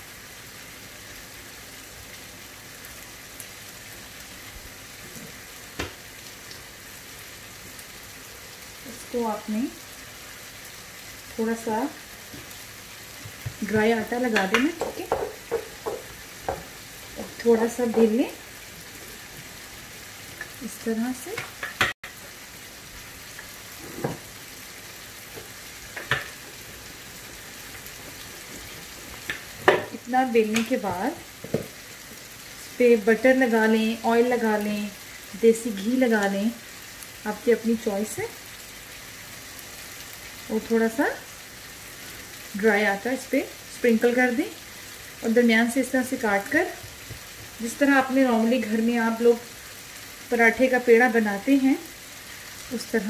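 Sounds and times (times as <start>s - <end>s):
chicken sizzling in a pan: 0.0s - 53.0s.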